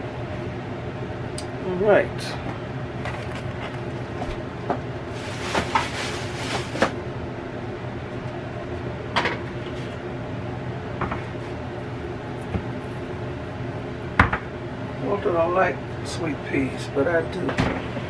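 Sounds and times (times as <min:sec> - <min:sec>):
air fryer oven humming: 0:00.0 - 0:18.0.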